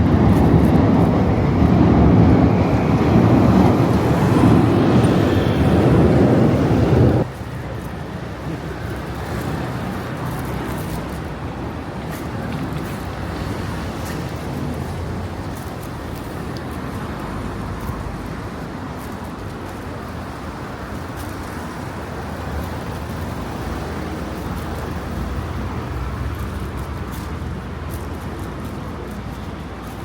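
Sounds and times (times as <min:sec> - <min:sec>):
road vehicles passing: 0:00.0 - 0:30.0.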